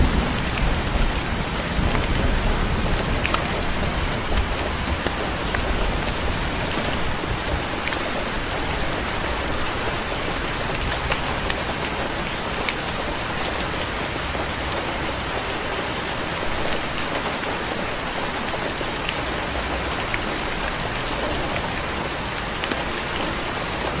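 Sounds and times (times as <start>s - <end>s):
rain pattering on a porch: 0.0s - 24.0s.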